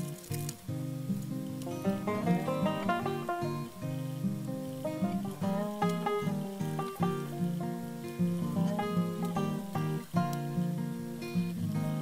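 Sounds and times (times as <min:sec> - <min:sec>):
plucked acoustic guitar music: 0:00.0 - 0:12.0.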